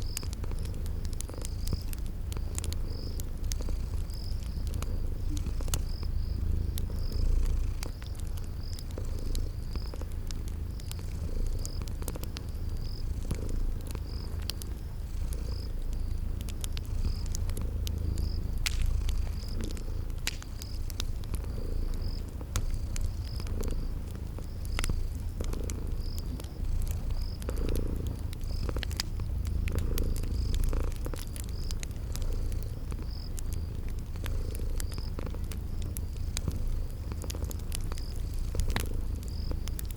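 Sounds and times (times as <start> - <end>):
cat purring: 0.0 - 39.9
cricket chirping: 0.0 - 39.9
wood fire crackling: 0.0 - 39.9.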